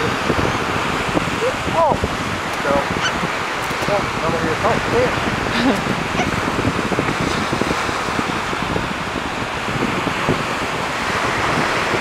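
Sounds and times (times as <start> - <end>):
surf on beach: 0.0 - 12.0
wind buffeting microphone: 0.0 - 12.0.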